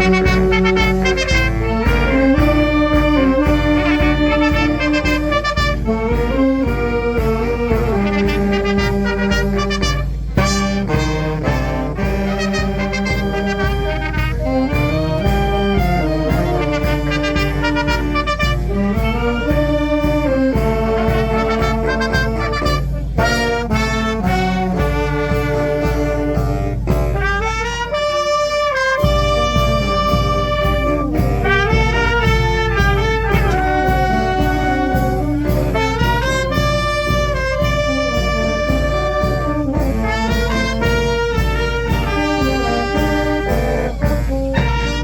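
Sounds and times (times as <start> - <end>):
brass band melody: 0.0 - 45.0
steady drum beat: 0.0 - 45.0.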